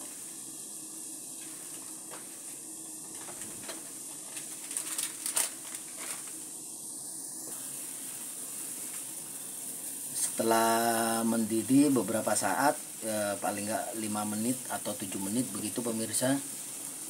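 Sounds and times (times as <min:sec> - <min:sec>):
water heating in pot hissing: 0:00.0 - 0:17.0.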